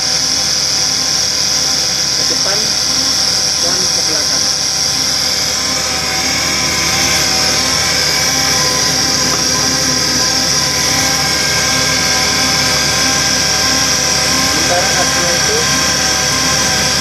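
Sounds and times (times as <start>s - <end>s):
air exhaust hissing: 0.0s - 17.0s
air motor whining: 0.0s - 17.0s.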